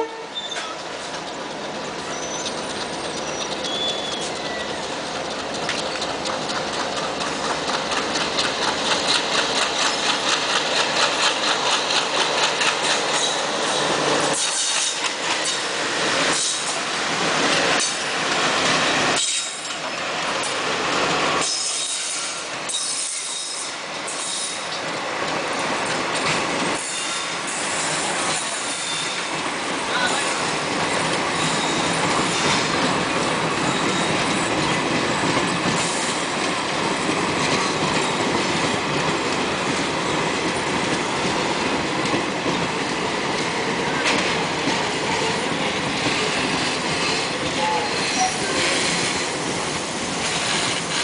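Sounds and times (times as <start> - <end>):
diesel locomotive engines passing: 0.0 - 51.0
train wheels clickety-clack: 0.0 - 51.0.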